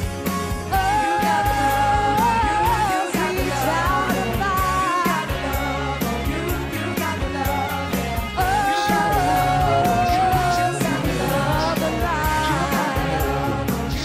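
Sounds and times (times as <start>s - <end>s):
amplified band playing: 0.0s - 14.0s
bass: 0.0s - 14.0s
steady drum beat: 0.0s - 14.0s
woman singing into a microphone: 0.7s - 14.0s.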